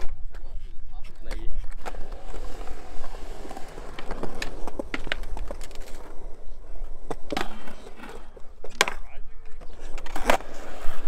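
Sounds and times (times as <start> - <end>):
skateboard clacks: 0.0 - 11.0
skateboard wheels rolling on concrete: 0.0 - 11.0.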